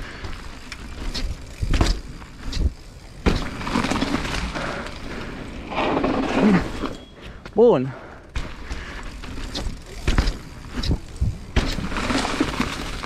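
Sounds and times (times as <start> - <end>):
bike wheels and frame knocking: 0.0 - 7.6, 8.2 - 13.0
tyre rolling on dirt: 0.3 - 7.0, 8.4 - 13.0.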